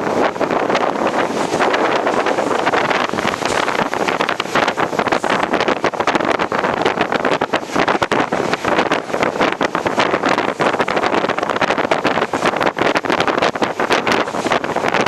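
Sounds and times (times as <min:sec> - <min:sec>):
train rattling on track: 0:00.0 - 0:15.0
wind buffeting microphone: 0:00.0 - 0:15.0.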